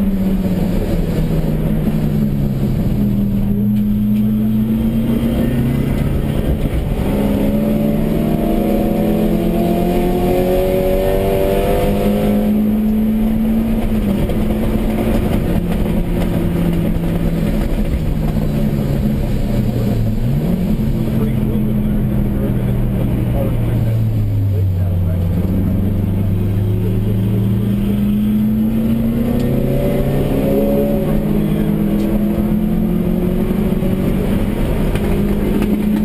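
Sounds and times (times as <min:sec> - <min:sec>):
car engine accelerating: 0:00.0 - 0:36.0
road and tyre noise: 0:00.0 - 0:36.0.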